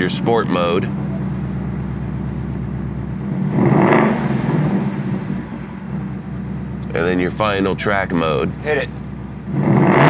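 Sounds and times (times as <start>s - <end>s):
car exhaust idling: 0.0s - 10.0s.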